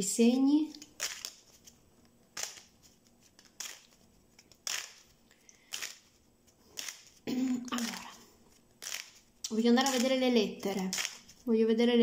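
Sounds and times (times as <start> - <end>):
playing cards shuffling: 0.7 - 11.5.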